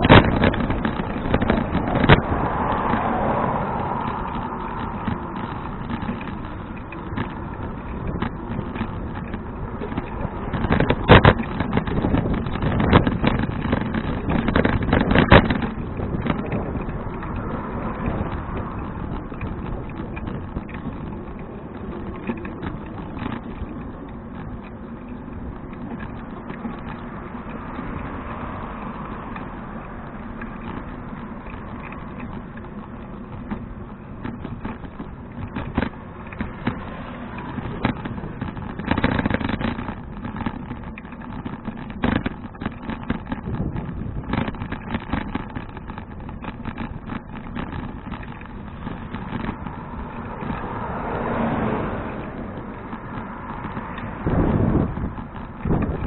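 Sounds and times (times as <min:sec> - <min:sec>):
bicycle rattling over bumps: 0:00.0 - 0:56.0
bicycle tyres rumbling: 0:00.0 - 0:56.0.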